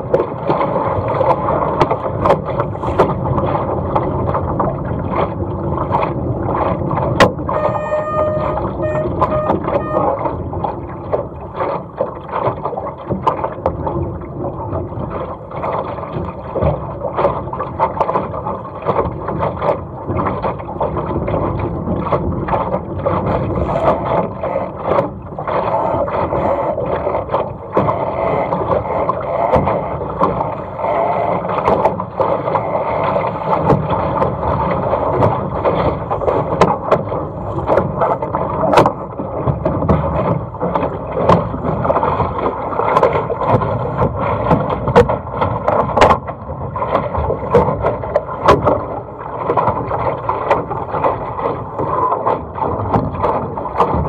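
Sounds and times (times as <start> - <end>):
sharp splashes and knocks: 0.0 - 54.0
water slapping against hull: 0.0 - 54.0.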